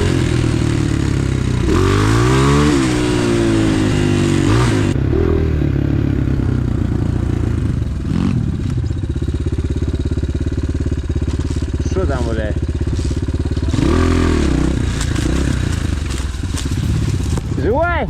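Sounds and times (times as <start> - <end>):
motorcycle engine idling: 0.0 - 18.0
motorcycle engine revving: 0.0 - 18.0.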